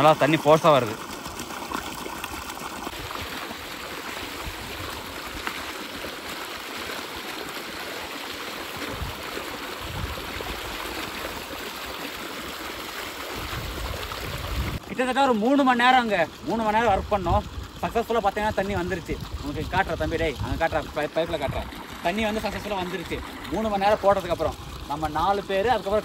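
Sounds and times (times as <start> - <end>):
water gushing from pipe: 0.0 - 26.0.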